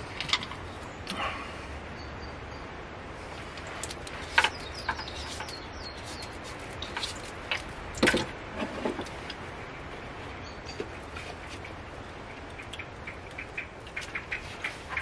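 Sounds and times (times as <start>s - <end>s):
small birds chirping: 0.0s - 7.7s, 9.4s - 15.0s.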